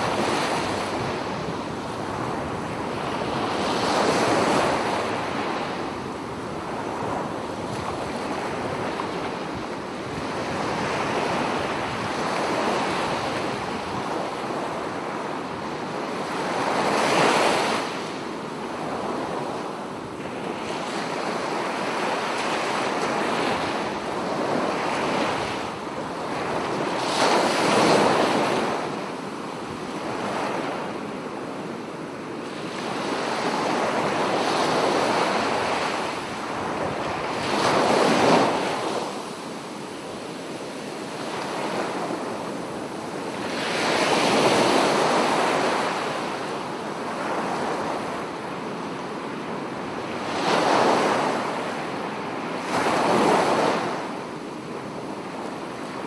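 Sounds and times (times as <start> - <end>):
ocean waves breaking on shore: 0.0 - 56.0
wind on microphone: 0.0 - 56.0.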